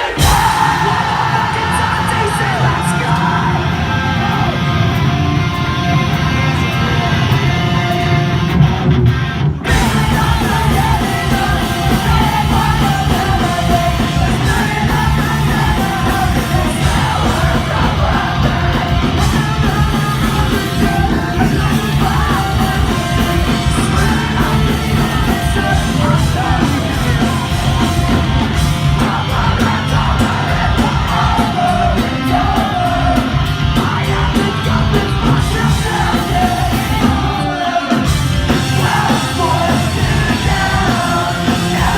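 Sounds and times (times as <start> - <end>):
singer yelling: 0.0 - 5.1, 9.7 - 41.9
live rock band playing: 0.0 - 41.9.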